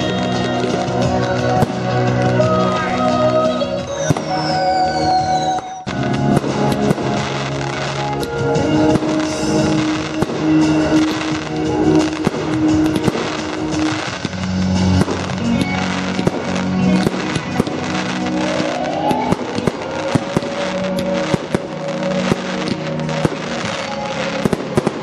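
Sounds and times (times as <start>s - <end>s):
fireworks bangs and crackles: 0.0s - 25.0s
music playing: 0.0s - 25.0s.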